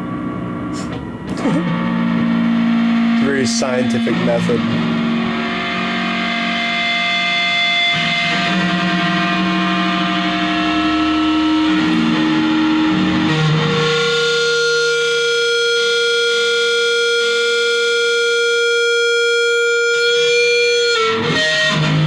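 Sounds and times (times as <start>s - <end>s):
electric guitar feedback: 0.0s - 22.0s.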